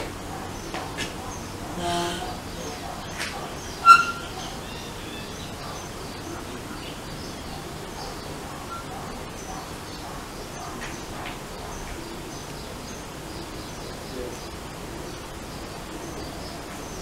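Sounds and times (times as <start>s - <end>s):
outdoor background hiss: 0.0s - 17.0s
small birds chirping: 0.0s - 17.0s.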